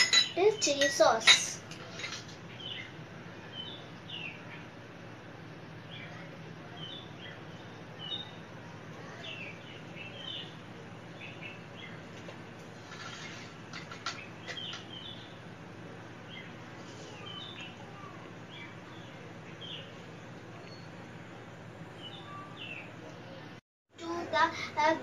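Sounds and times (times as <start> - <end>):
low room hum: 0.0 - 25.0
small birds chirping: 1.8 - 23.5.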